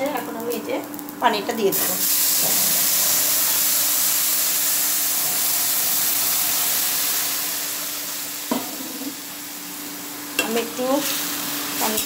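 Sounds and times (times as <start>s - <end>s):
water sizzling in hot pan: 1.1s - 12.0s.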